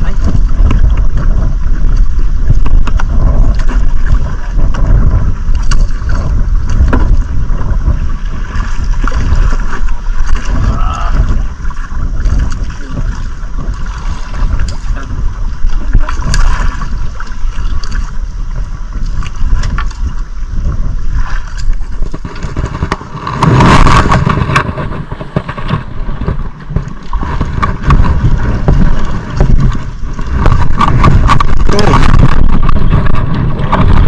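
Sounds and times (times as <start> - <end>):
wind rumble on microphone: 0.0 - 34.0.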